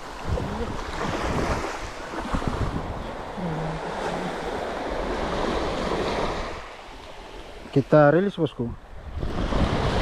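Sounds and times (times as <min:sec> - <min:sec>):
wind rumbling on microphone: 0:00.0 - 0:06.7, 0:08.6 - 0:10.0
small waves washing on sand: 0:00.0 - 0:10.0.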